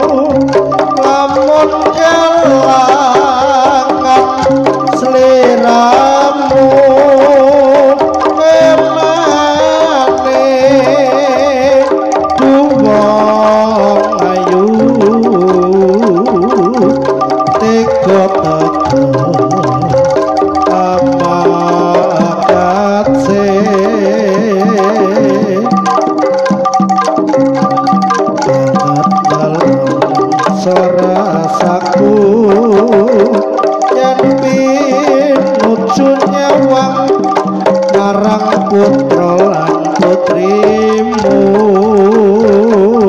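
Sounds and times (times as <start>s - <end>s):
gamelan melodic instruments: 0.0s - 43.0s
hand drums rhythm: 0.0s - 43.0s
wavering lead melody: 0.0s - 43.0s.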